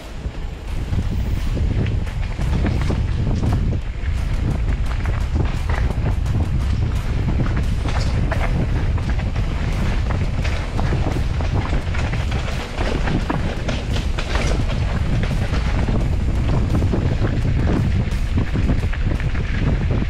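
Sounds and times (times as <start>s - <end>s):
bike rattling and clattering: 0.0s - 20.0s
wind buffeting microphone: 0.0s - 20.0s.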